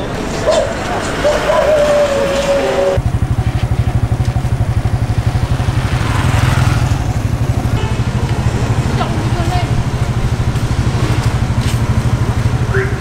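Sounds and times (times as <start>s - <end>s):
small engine idling: 1.5s - 13.0s.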